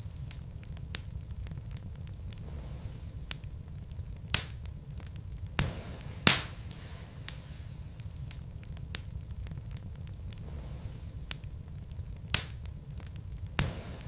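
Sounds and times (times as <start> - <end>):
burning logs popping: 0.0 - 14.0
low rumble of flames: 0.0 - 14.0
wood fire crackling: 0.0 - 14.0.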